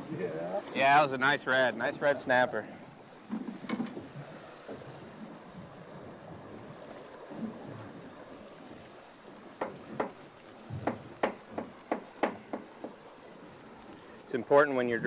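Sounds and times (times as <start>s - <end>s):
choppy sea water washing: 0.0s - 15.0s
wind: 0.0s - 15.0s.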